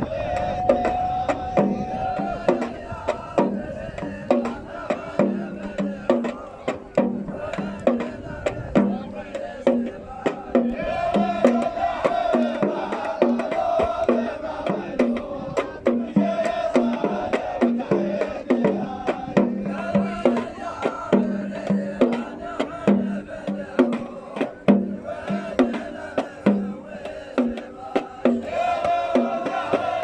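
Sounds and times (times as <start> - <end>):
drum beat: 0.0 - 30.0
men chanting together: 0.0 - 30.0.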